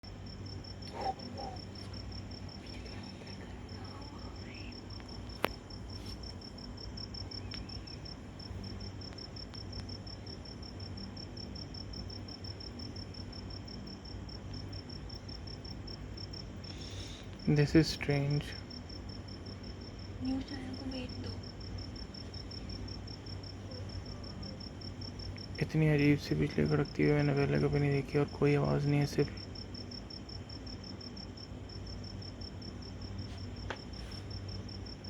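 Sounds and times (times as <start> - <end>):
cricket chirping: 0.0 - 35.0
low steady hum: 0.0 - 35.0.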